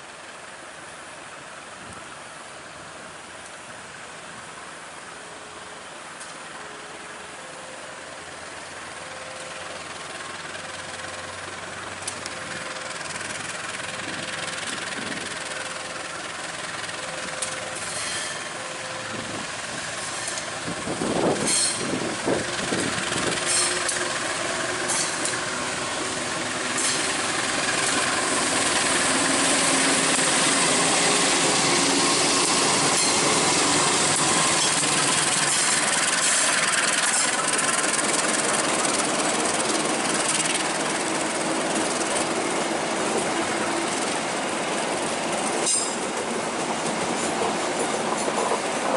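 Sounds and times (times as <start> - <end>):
train passing: 0.0 - 48.9.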